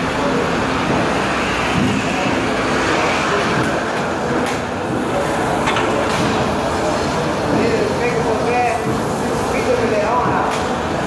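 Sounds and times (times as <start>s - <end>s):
gym machines whooshing rumble: 0.0s - 9.4s.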